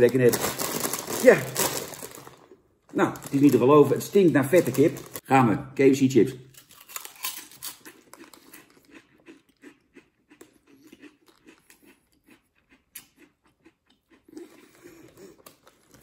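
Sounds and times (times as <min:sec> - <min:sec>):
potato chip crunching: 0:00.0 - 0:05.3, 0:06.5 - 0:14.6.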